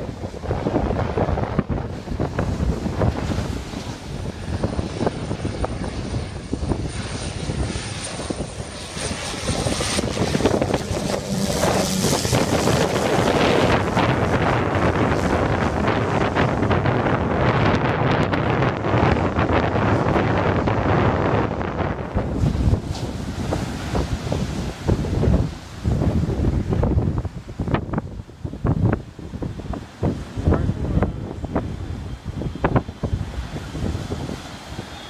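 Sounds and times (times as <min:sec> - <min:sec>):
propeller plane flying overhead: 0:00.0 - 0:35.0
wind on microphone: 0:00.0 - 0:35.0.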